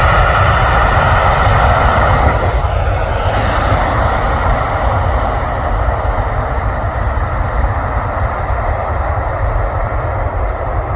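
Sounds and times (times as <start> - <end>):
deep low rumble: 0.0 - 9.0
jet engines roaring: 0.0 - 10.9.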